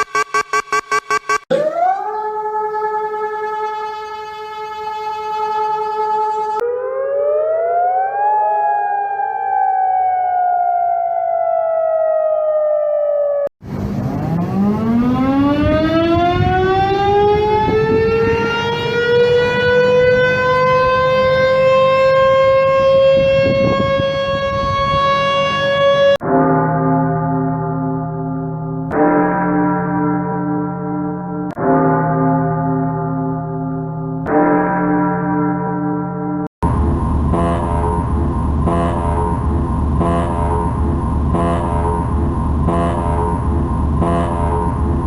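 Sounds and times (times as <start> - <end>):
civil defence siren winding up: 0.0 - 29.1, 37.3 - 45.0
warning siren rising and falling: 0.0 - 45.0.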